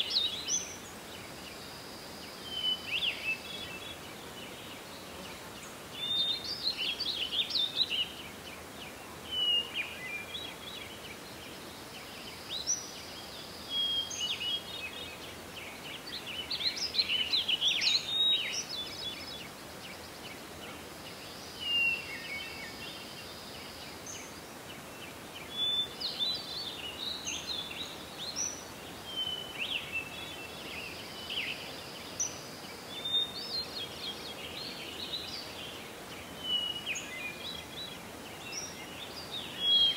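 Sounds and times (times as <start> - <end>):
outdoor background hiss: 0.0 - 39.9
songbird singing: 0.0 - 39.9.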